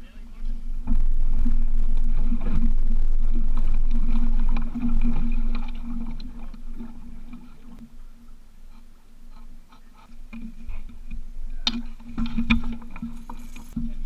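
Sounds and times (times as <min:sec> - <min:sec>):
water rumble: 0:00.0 - 0:14.0
wind: 0:00.0 - 0:14.0
outboard motor running: 0:00.5 - 0:14.0.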